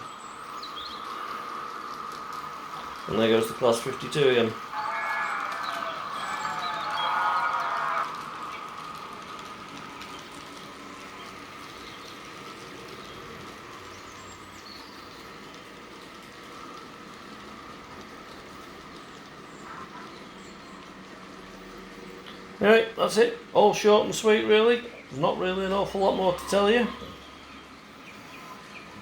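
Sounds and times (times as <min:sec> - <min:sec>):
model train whirring and rattling: 0:00.0 - 0:29.0.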